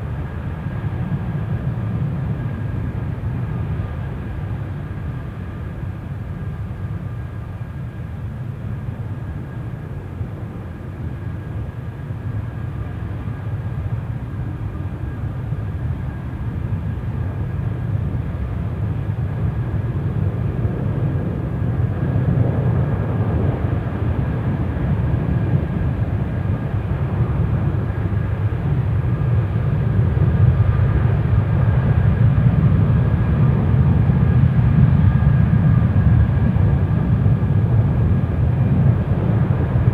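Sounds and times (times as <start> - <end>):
jet engines running at high power: 0.0 - 39.9.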